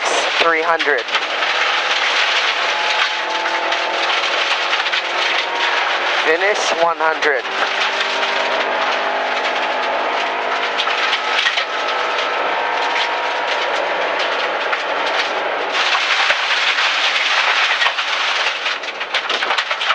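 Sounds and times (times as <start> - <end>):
car engine: 0.0 - 19.9
tyre and road noise on gravel: 0.0 - 19.9
stones pinging off car underside: 0.4 - 6.4, 7.4 - 19.9.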